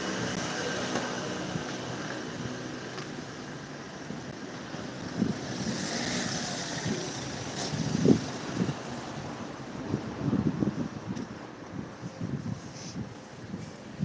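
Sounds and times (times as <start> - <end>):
car passing: 0.0 - 11.6
street hum: 0.0 - 14.0.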